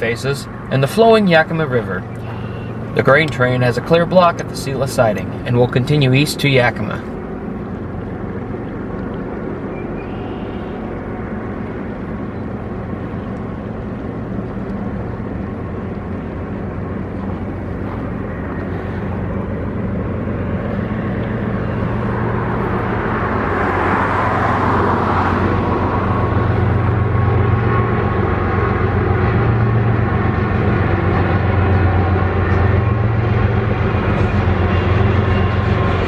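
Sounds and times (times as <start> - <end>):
diesel locomotive engine drone: 0.0 - 36.0
wheel and rail noise: 0.0 - 36.0.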